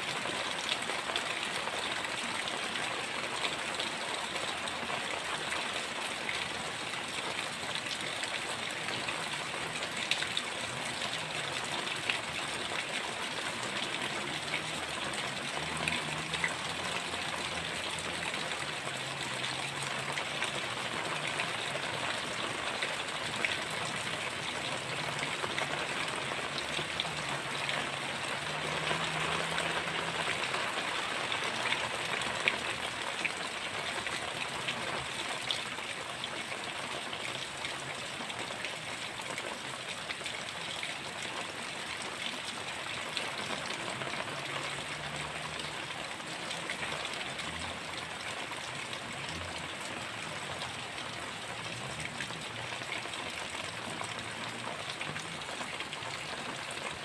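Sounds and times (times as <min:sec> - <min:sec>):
heavy rain falling: 0:00.0 - 0:57.0
raindrops ticking: 0:00.0 - 0:57.0.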